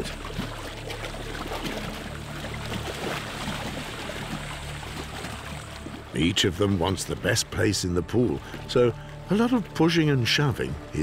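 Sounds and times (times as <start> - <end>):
muddy water sloshing and splashing: 0.0 - 11.0
soft background music: 0.0 - 11.0.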